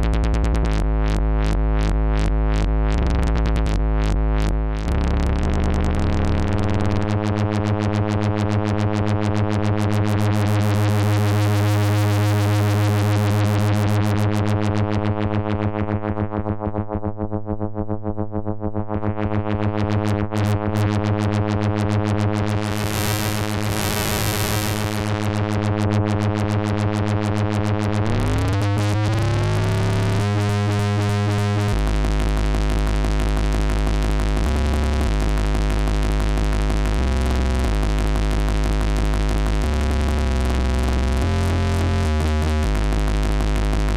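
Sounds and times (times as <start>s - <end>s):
buzzy synthesizer bass tone: 0.0s - 15.0s, 19.2s - 43.9s.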